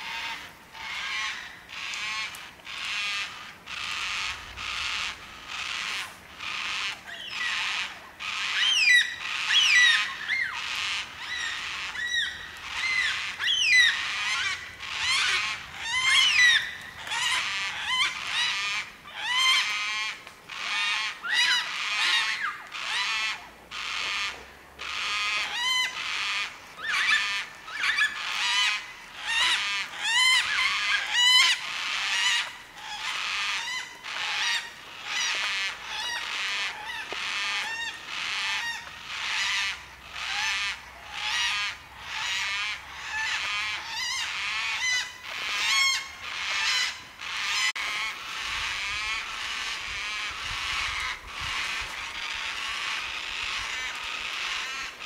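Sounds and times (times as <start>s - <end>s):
cockatoos calling: 0.0s - 55.0s.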